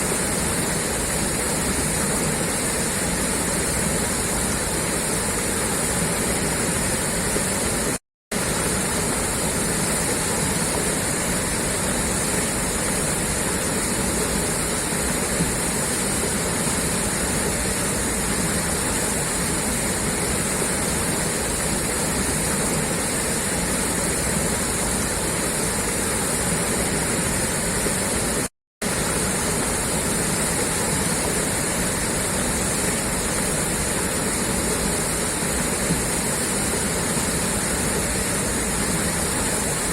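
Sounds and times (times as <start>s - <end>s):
water gushing from pipe: 0.0s - 39.9s.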